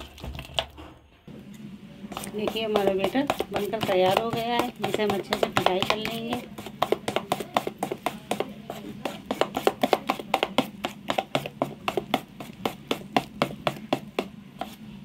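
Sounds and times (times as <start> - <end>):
batter beaten in a steel bowl: 2.0 - 15.0.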